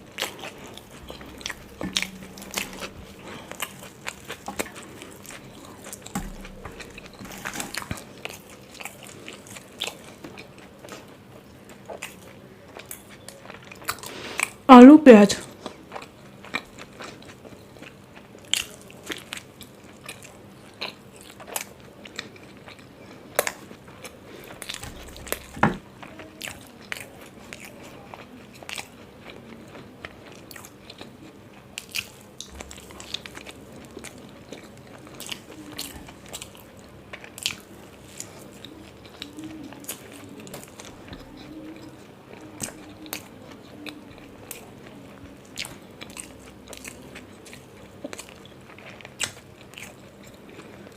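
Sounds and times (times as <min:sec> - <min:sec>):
biting and chewing bread: 0:00.0 - 0:14.7, 0:15.4 - 0:50.9.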